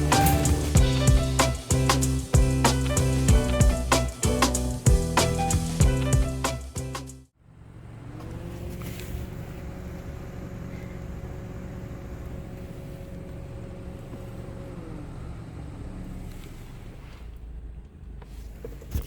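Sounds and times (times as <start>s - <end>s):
vehicle running low rumble: 0.0s - 19.0s.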